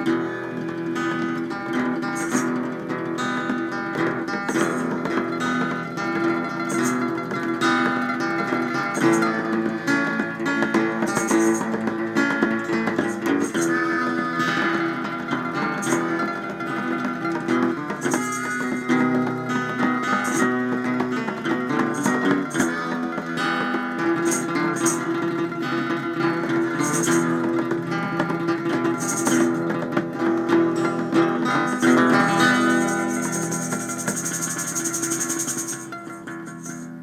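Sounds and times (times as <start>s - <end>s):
sharp percussion hits: 0.0s - 37.0s
western-style guitar music: 0.0s - 37.0s.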